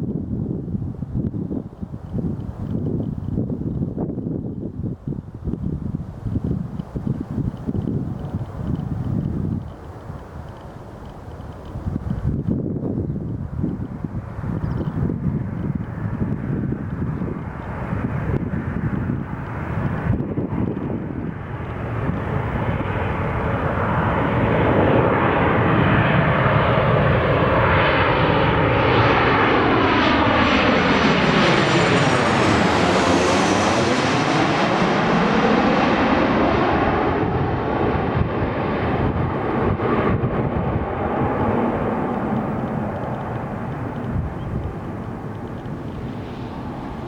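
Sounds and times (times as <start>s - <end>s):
jet engines passing: 0.0s - 47.0s.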